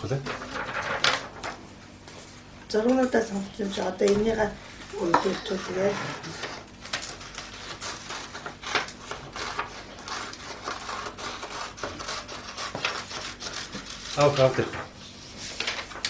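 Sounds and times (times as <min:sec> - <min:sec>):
paper rustling: 0:00.0 - 0:02.2, 0:04.0 - 0:16.0.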